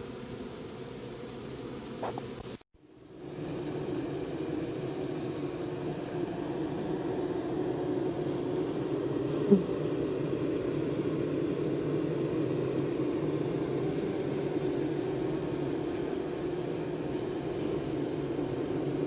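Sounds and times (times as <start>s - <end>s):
honeybees humming: 0.0s - 19.0s
loud bee buzz: 0.0s - 19.0s.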